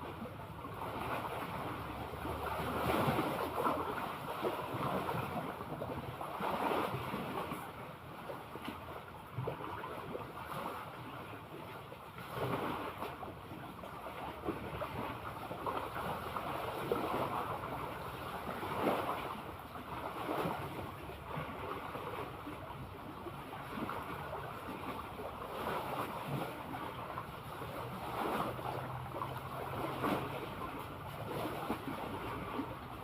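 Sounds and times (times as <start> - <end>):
sea water lapping and splashing: 0.0 - 33.0.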